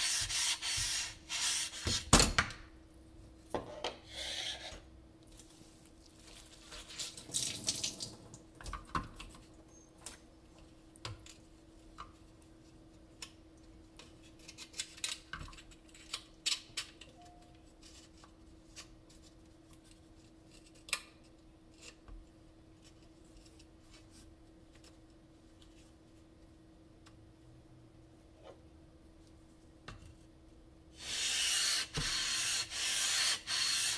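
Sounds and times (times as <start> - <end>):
faint steady hum: 0.0 - 33.9.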